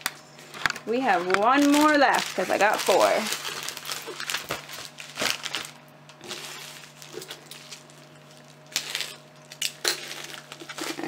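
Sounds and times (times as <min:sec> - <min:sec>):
plastic packaging crinkling: 0:00.5 - 0:11.0
scissors snipping plastic bag: 0:01.1 - 0:11.0.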